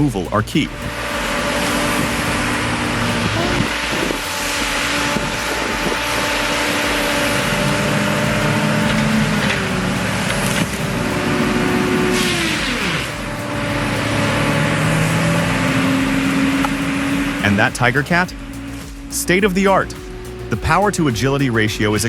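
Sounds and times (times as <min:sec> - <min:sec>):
heavy machine engine running: 0:00.0 - 0:22.0.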